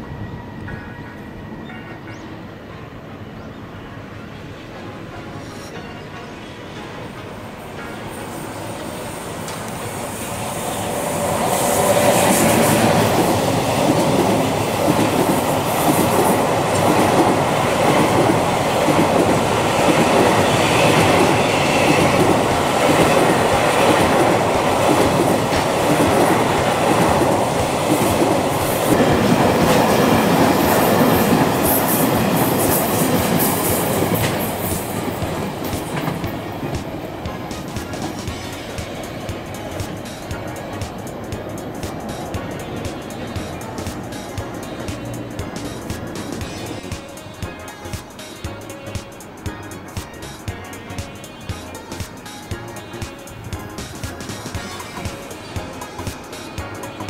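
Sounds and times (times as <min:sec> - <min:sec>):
freight train passing: 0:00.0 - 0:57.0.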